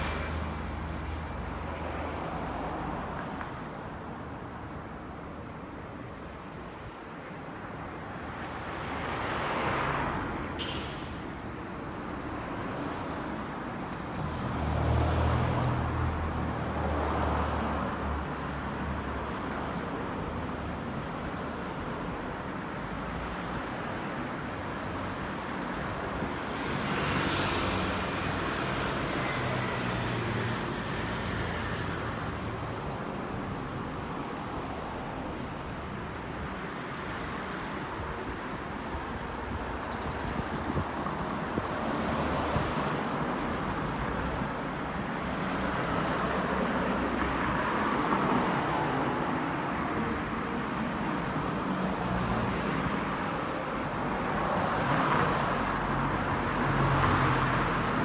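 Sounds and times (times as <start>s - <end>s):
vehicles passing: 0.0s - 5.9s, 6.5s - 58.0s
road noise: 0.0s - 58.0s.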